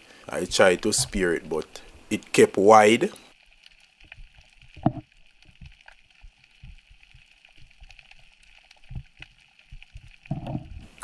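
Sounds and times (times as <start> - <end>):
underwater water movement: 0.0 - 2.4, 3.2 - 11.0
faint crackling: 0.0 - 11.0.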